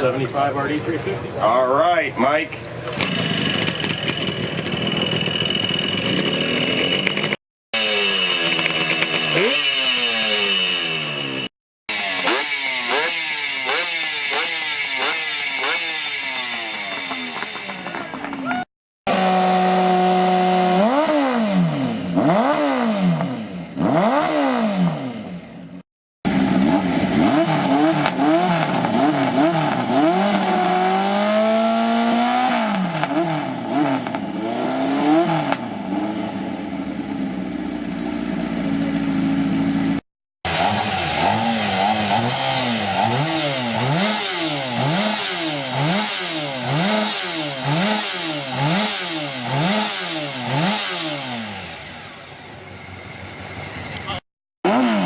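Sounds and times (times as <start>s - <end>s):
motorcycle engine revving: 2.7s - 55.0s.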